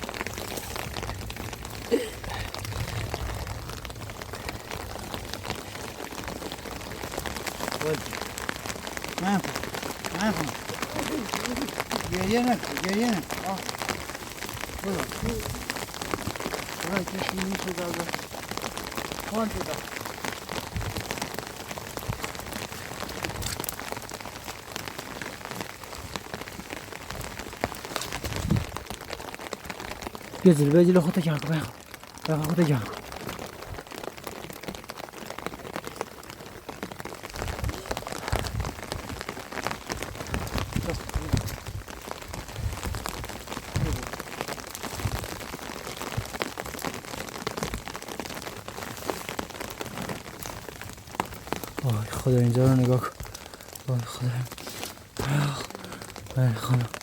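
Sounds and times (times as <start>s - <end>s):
raindrops ticking on surfaces: 0.0s - 57.0s
steady rain falling: 0.0s - 57.0s.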